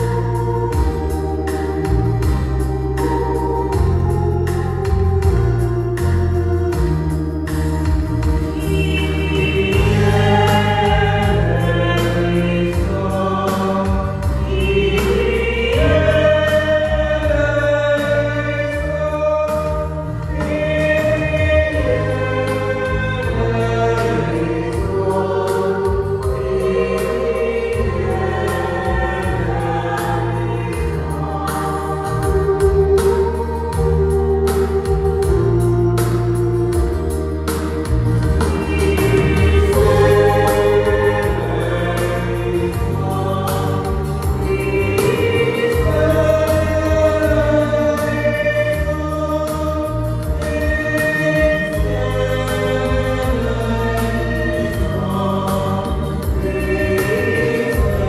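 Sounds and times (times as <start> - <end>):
choir singing a hymn: 0.0 - 58.0
electronic keyboard organ chords: 0.0 - 58.0.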